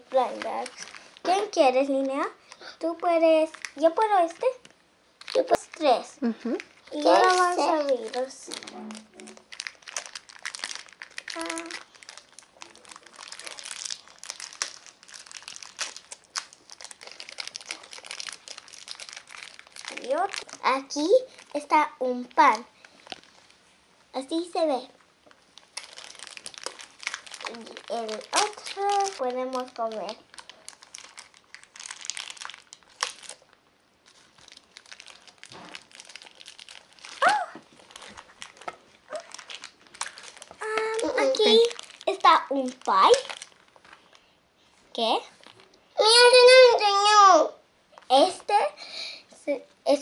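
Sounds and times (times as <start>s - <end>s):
plastic wrappers crinkling: 0.0s - 23.6s, 24.2s - 47.2s.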